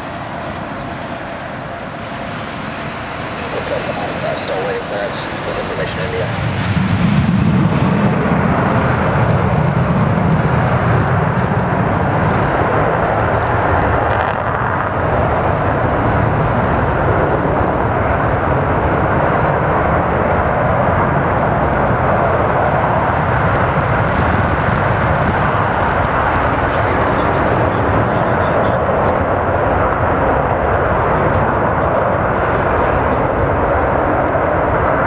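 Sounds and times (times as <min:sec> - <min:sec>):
jet engines roaring on takeoff: 0:00.0 - 0:35.0.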